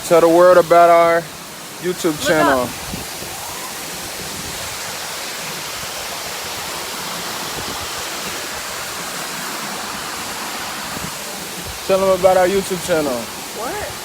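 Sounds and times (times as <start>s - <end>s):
waterfall crashing into pool: 0.0s - 14.0s.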